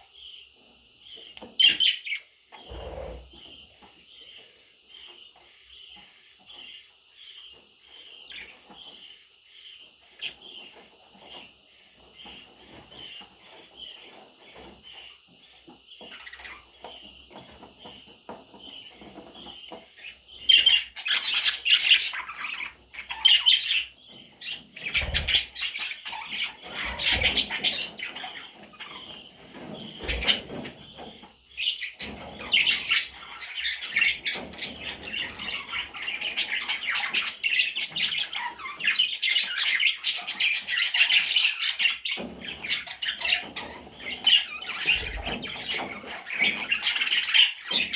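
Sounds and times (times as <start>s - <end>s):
budgerigar chicks chirping: 0.0s - 47.9s
chicks squawking: 0.2s - 47.9s.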